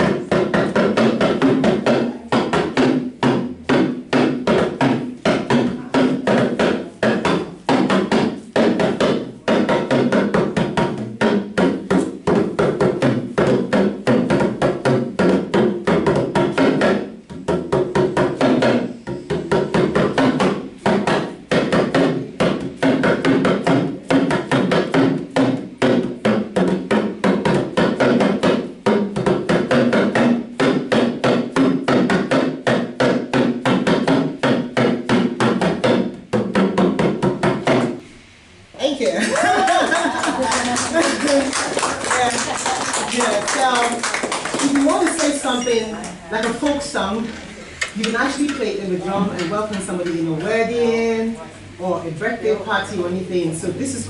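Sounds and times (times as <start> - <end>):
talking drums beaten with sticks: 0.0 - 38.0, 39.4 - 51.8.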